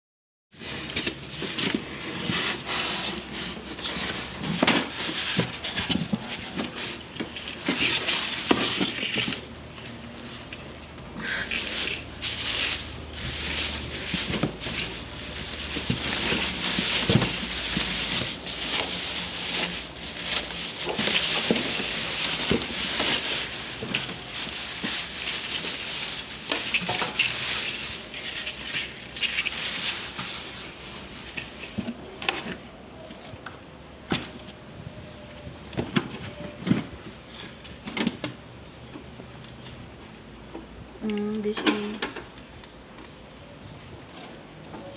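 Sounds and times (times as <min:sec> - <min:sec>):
packaging crinkling and rustling: 0:00.6 - 0:40.8.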